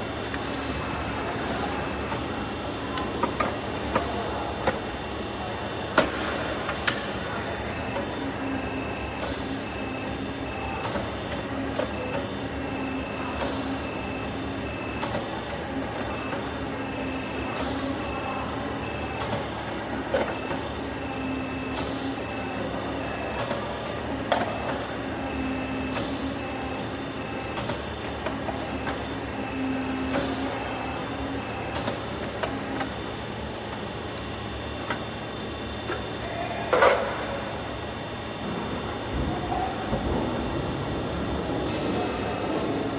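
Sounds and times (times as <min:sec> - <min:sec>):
machine tone: 0:06.2 - 0:33.2, 0:33.9 - 0:42.9.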